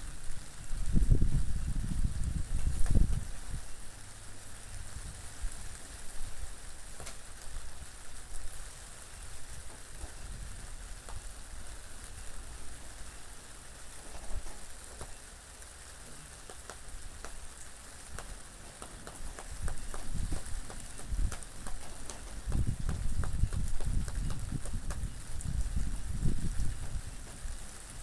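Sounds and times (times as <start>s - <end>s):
low rumble of wind: 0.0s - 28.0s
steady rain falling: 0.0s - 28.0s.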